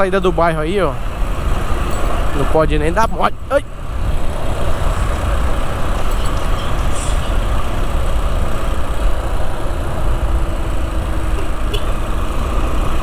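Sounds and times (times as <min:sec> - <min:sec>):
motorcycle engine running: 0:01.0 - 0:13.0.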